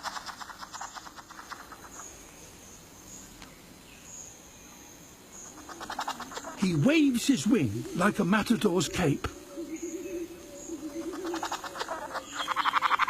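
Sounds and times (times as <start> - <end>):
insect dry rattle: 0.0 - 13.0.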